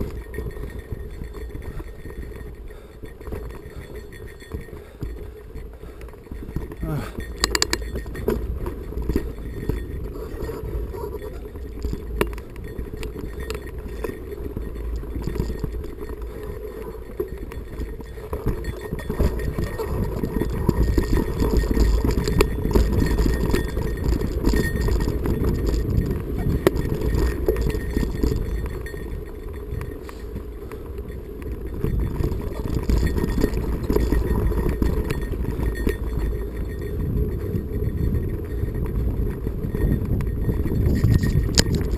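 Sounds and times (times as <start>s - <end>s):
bike clinking over rocks: 0.0s - 41.9s
wind rumble on microphone: 0.0s - 41.9s.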